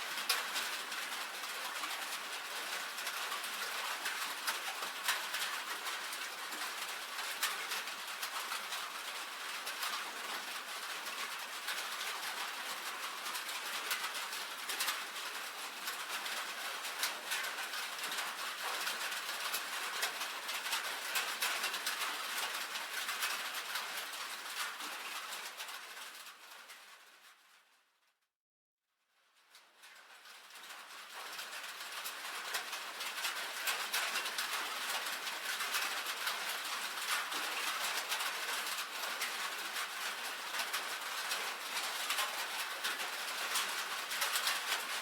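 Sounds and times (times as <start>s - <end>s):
rain on a tin roof: 0.0s - 28.1s, 29.0s - 45.0s.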